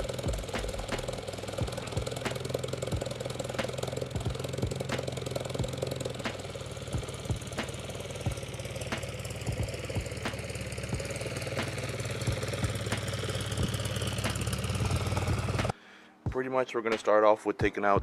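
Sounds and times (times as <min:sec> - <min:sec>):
car engine idling with ticking: 0:00.0 - 0:15.8.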